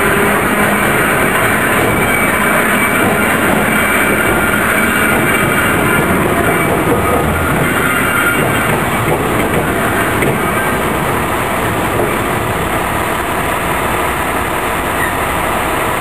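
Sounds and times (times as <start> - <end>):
mechanical rumble and rail noise: 0.0 - 16.0.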